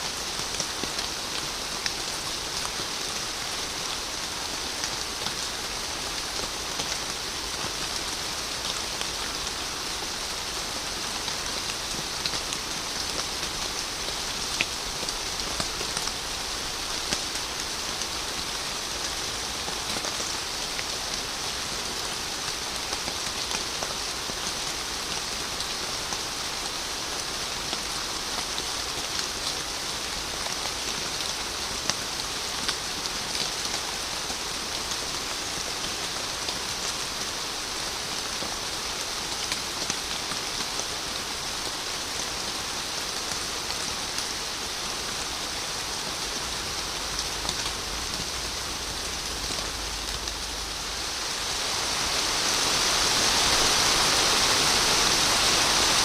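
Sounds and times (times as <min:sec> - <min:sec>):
steady rain falling: 0:00.0 - 0:56.0
raindrops ticking on a surface: 0:00.1 - 0:53.6.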